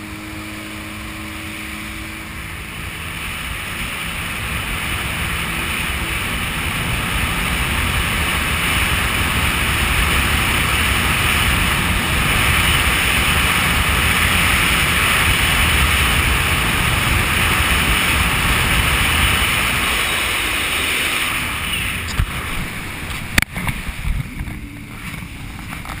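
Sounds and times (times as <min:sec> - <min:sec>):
jet ski engine: 0:00.0 - 0:26.0
wind buffeting microphone: 0:00.0 - 0:26.0.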